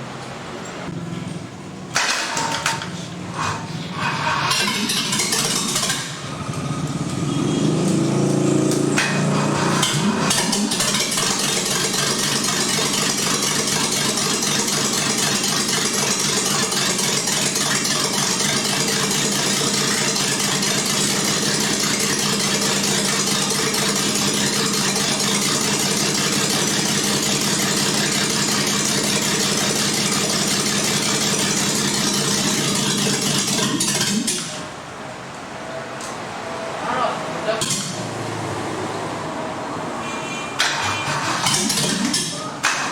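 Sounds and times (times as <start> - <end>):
engine starting and idling: 1.9 - 34.8, 37.6 - 38.2, 40.6 - 42.9.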